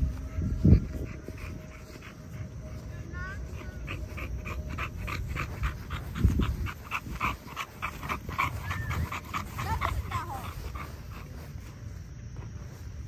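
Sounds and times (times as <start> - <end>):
puppy panting: 0.0 - 12.1
wind rumbling on microphone: 0.0 - 13.0.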